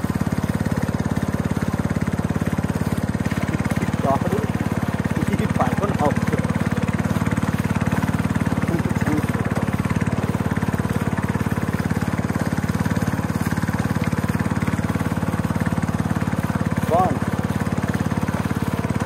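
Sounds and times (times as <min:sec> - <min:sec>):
small boat motor running: 0:00.0 - 0:19.0.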